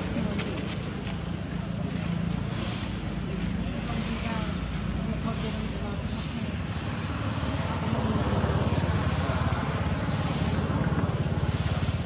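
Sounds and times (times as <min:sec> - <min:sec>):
engine running with low pulsing: 0:00.0 - 0:12.0.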